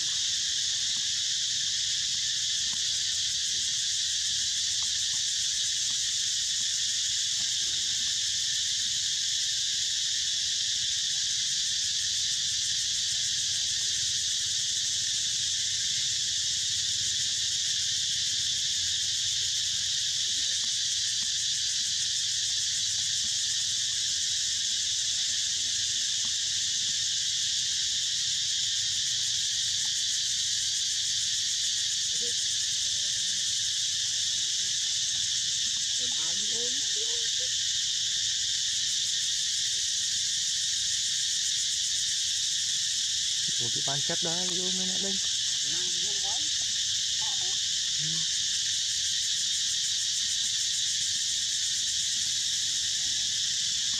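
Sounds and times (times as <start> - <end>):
insect chorus buzzing: 0.0 - 53.9.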